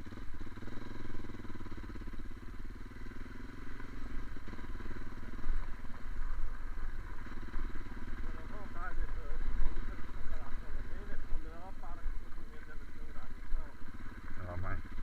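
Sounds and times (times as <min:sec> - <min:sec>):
car engine running: 0:00.0 - 0:15.0
road rumble: 0:00.0 - 0:15.0.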